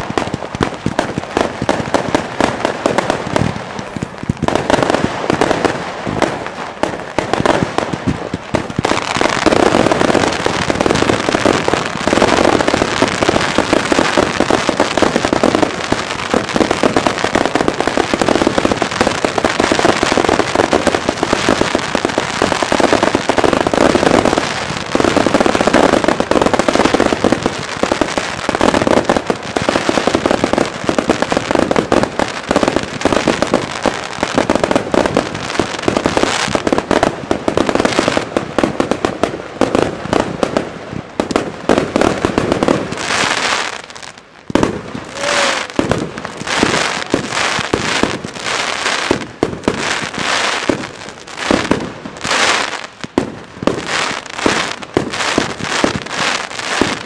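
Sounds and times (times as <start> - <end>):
firecrackers banging and crackling: 0.0 - 57.0
heavy firework bangs: 0.0 - 57.0.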